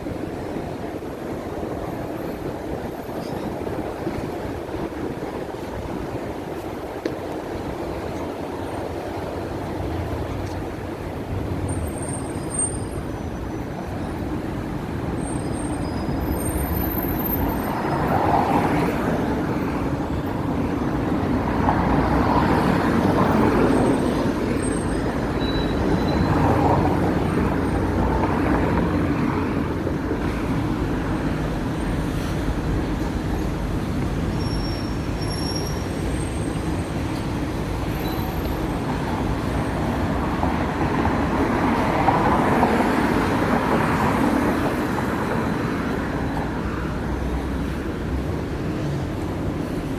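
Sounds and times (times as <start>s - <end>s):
electric tram rumbling: 0.0s - 49.9s
road traffic: 0.0s - 49.9s.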